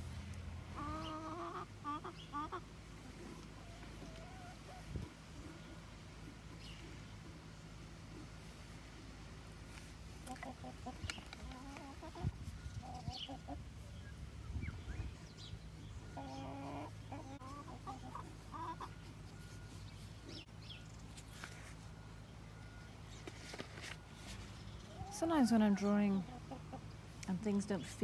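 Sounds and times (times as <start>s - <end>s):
hens clucking: 0.6s - 14.4s, 15.0s - 20.5s, 23.5s - 28.0s.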